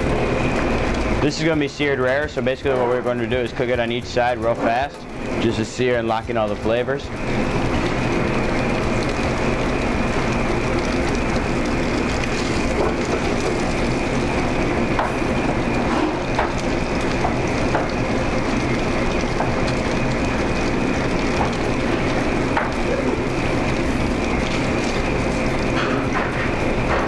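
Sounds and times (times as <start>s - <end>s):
fish sizzling in a pan: 0.0s - 27.0s.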